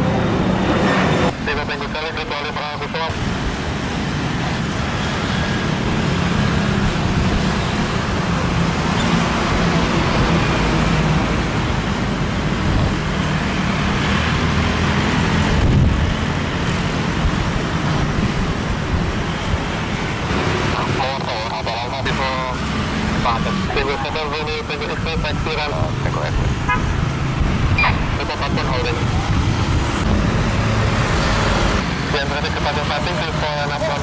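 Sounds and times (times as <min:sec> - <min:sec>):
jet taxiing: 0:00.0 - 0:34.0.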